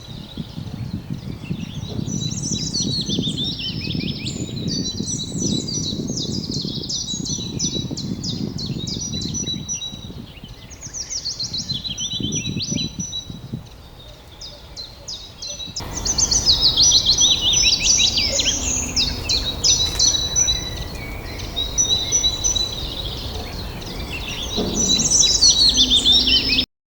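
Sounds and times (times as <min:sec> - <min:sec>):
songbirds chirping and trilling: 0:00.0 - 0:26.7.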